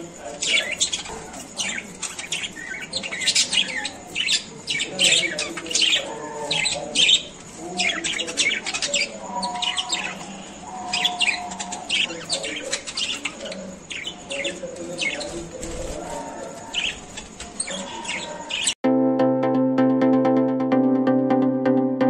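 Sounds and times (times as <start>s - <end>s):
budgerigars chirping and squawking: 0.0s - 18.8s
low bird warbling: 0.0s - 18.8s.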